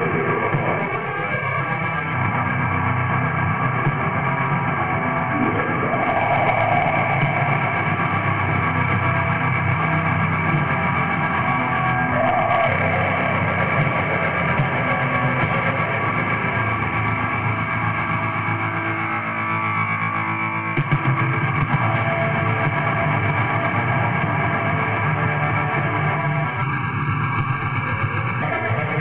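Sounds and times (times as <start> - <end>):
lo-fi black metal music: 0.0 - 29.0.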